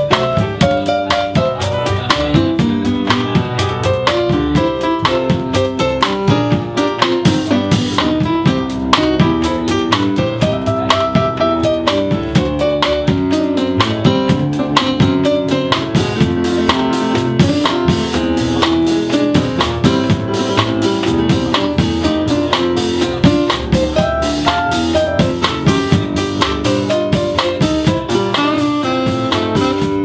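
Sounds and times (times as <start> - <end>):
blues band playing: 0.0 - 30.0.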